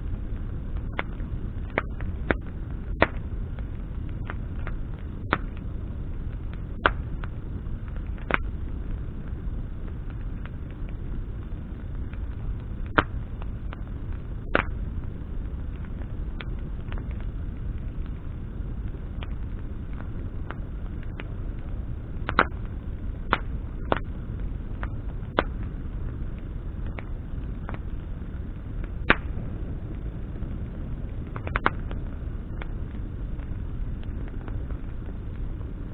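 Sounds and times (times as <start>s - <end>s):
bonfire crackling and popping: 0.0s - 35.9s
low rumble of flames: 0.0s - 35.9s.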